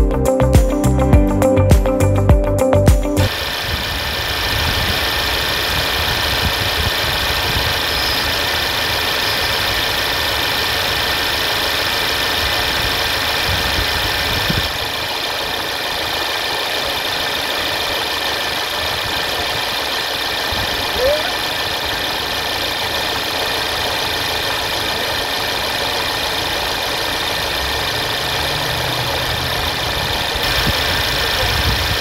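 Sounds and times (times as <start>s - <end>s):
car engine idling with ticking: 3.3s - 32.0s.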